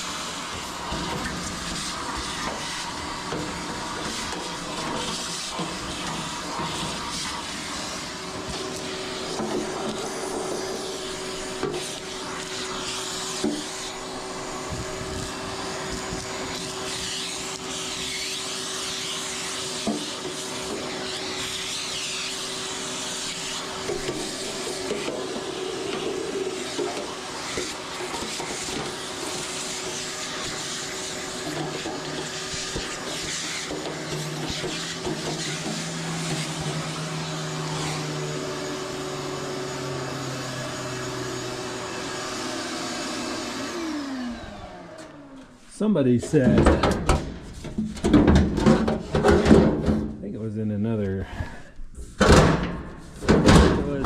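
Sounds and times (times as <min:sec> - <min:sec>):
vacuum cleaner running: 0:00.0 - 0:50.1, 0:51.4 - 0:54.0.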